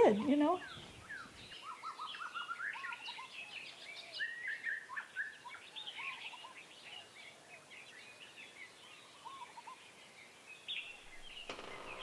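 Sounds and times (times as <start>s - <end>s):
birds chirping and calling: 0.0s - 12.0s
faint outdoor hiss: 0.0s - 12.0s.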